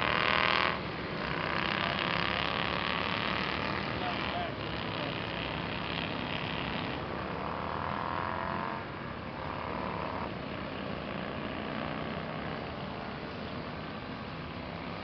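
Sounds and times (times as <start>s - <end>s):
distant racing motorcycles: 0.0s - 15.0s.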